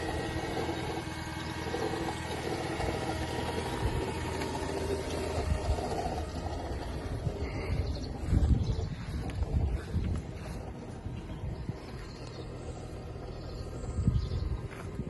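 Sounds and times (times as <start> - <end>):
car engine idling with ticking: 0.0 - 15.0.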